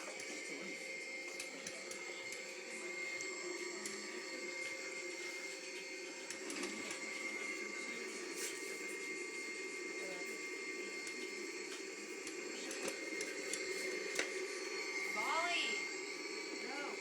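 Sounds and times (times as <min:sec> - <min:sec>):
vacuum cleaner whine: 0:00.0 - 0:17.0.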